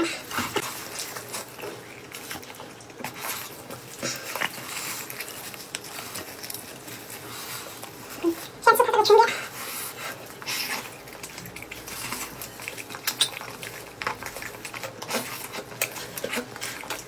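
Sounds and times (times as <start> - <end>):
person chewing and biting: 0.0 - 8.1, 10.1 - 17.0.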